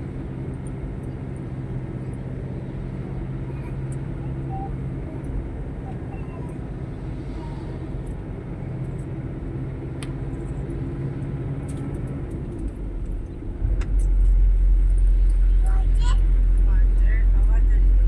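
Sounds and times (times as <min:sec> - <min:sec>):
vehicle engine humming at low revs: 0:00.0 - 0:18.0.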